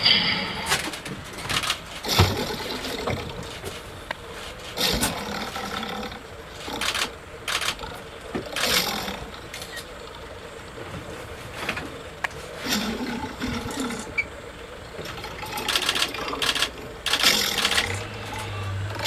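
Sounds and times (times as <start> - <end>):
lion roaring: 0.0 - 3.8, 4.7 - 10.6, 12.6 - 14.3, 14.9 - 19.0.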